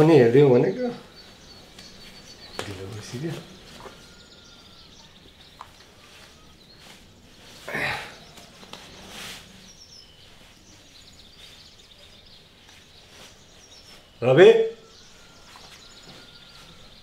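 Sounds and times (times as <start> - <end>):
background hiss: 0.0 - 17.0
faint bird chirps: 0.0 - 17.0.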